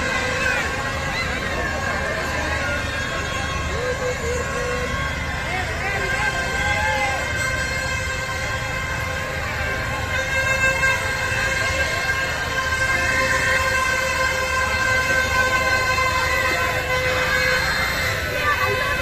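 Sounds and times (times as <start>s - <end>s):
crowd chatter: 0.0s - 19.0s.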